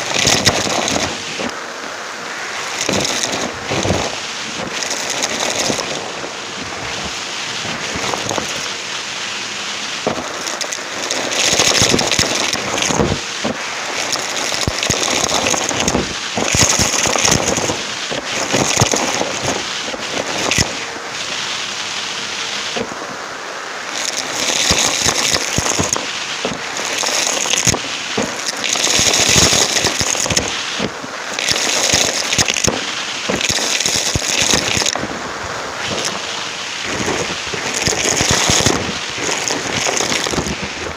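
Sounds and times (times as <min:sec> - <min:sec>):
debris crackling and rattling: 0:00.0 - 0:01.6, 0:02.6 - 0:08.8, 0:10.0 - 0:20.8, 0:23.9 - 0:40.9
vacuum cleaner suction: 0:00.0 - 0:01.6, 0:02.4 - 0:23.2, 0:23.8 - 0:40.9.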